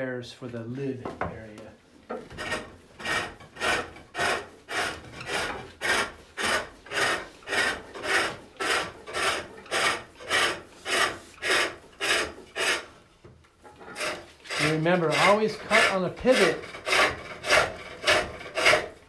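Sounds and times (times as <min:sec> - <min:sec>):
tool shaving wood on lathe: 0:02.2 - 0:13.0, 0:13.7 - 0:19.0.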